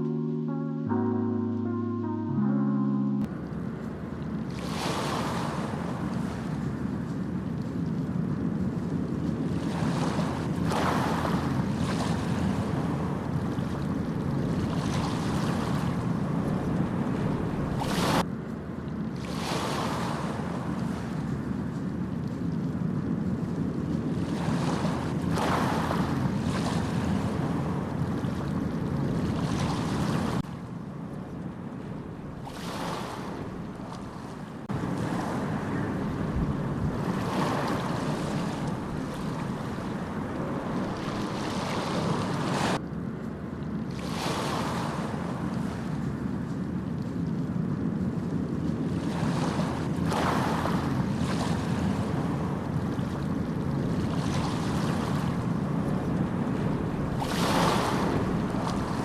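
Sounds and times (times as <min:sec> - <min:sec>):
wind rumbling on microphone: 0:03.3 - 0:59.0
sea waves breaking: 0:03.9 - 0:18.3, 0:19.0 - 0:42.8, 0:43.7 - 0:59.0.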